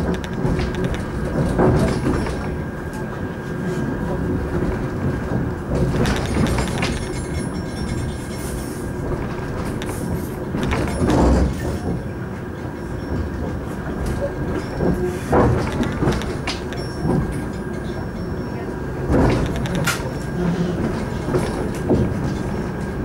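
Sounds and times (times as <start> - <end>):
train rumbling inside carriage: 0.0 - 23.0.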